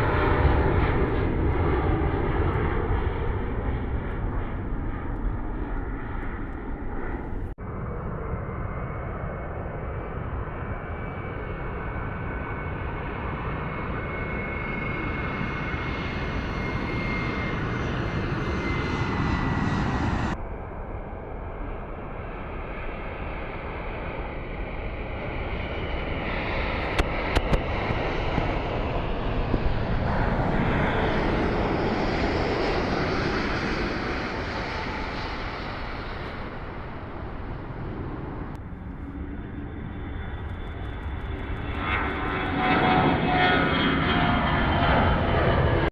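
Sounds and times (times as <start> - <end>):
airliner engine noise: 0.0 - 45.9.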